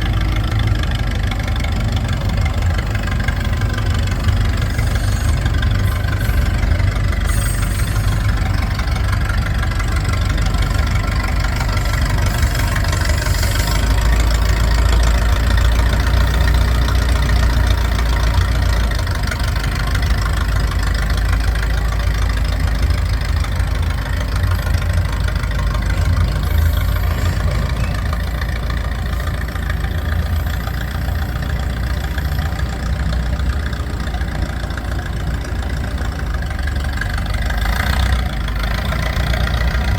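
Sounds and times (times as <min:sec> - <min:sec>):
tractor engine rumbling: 0:00.0 - 0:39.9.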